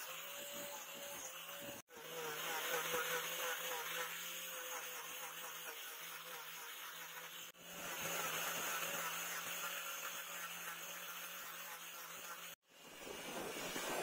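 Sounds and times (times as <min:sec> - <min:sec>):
angle grinder sanding wood: 0:00.0 - 0:14.0.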